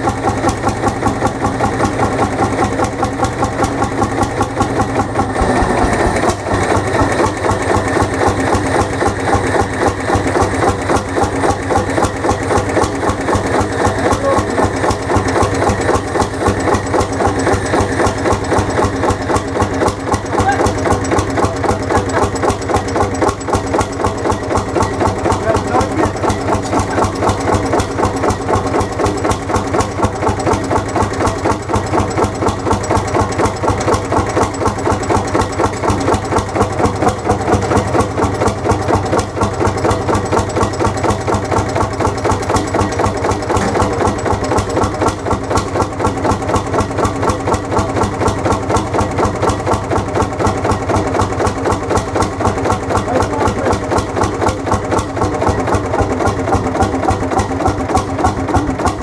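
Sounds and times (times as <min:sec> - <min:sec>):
hot-bulb engine idling: 0:00.0 - 0:59.0.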